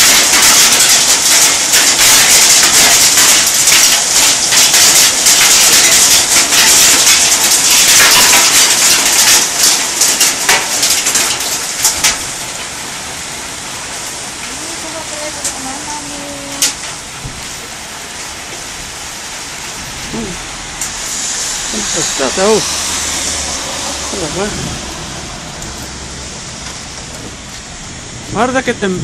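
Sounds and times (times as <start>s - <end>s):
hail and rain pelting down: 0.0s - 29.0s.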